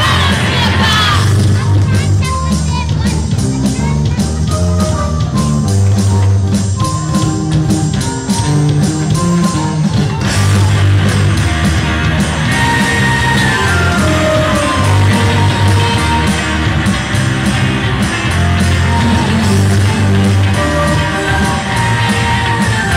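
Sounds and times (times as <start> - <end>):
instrumental rock music: 0.0 - 22.9
steady drum beat: 0.0 - 22.9.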